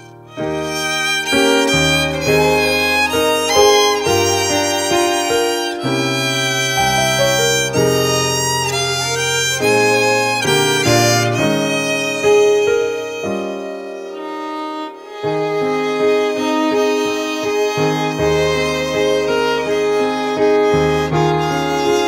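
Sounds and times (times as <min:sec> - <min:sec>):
piano accompaniment: 0:00.0 - 0:22.0
violins playing a hymn: 0:00.0 - 0:22.0.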